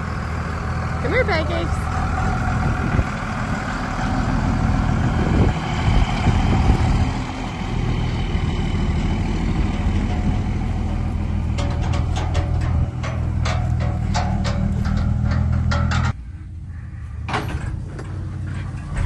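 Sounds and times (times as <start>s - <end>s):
truck engine driving past: 0.0s - 19.0s.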